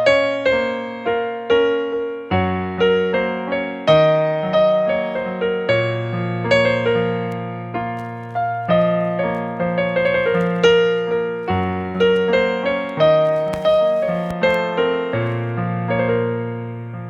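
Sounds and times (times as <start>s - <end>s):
keyboard playing piano melody: 0.0s - 17.0s.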